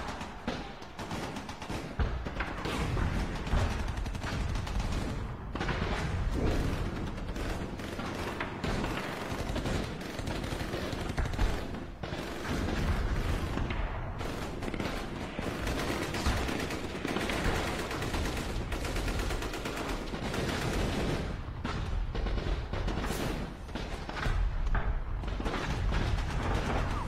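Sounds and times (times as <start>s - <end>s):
rapid gunfire: 0.0s - 27.0s.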